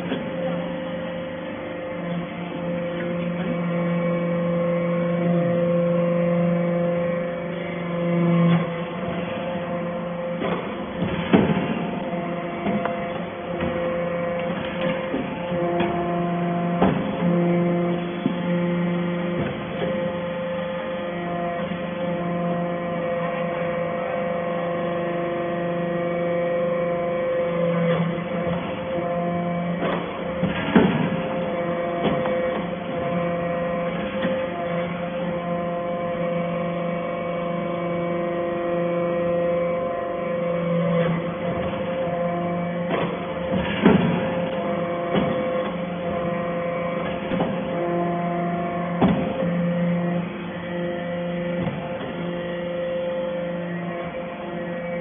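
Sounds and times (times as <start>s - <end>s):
hydraulic baler motor humming: 0.0s - 55.0s.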